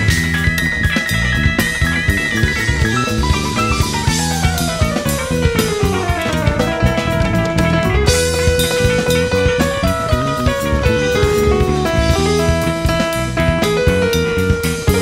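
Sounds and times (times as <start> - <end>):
drum kit: 0.0 - 15.0
electric guitars: 0.0 - 15.0
electric keyboard: 0.0 - 15.0.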